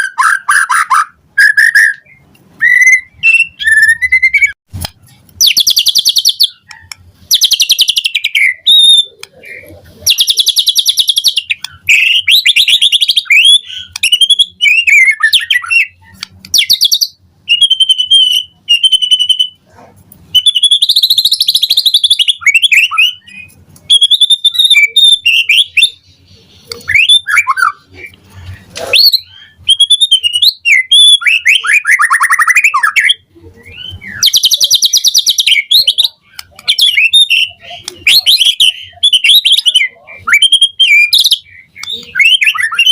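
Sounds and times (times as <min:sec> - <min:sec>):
songbird singing trills and whistles: 0:00.0 - 0:42.9.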